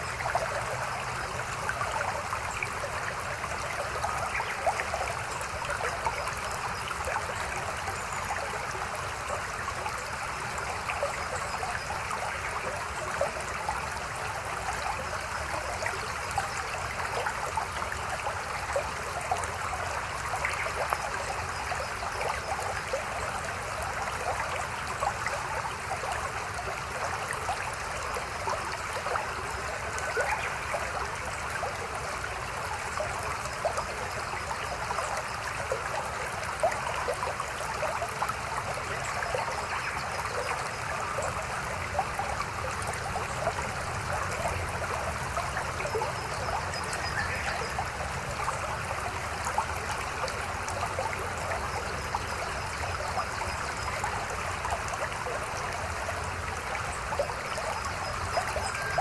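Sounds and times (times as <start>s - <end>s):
mountain stream babbling over rocks: 0.0s - 59.0s.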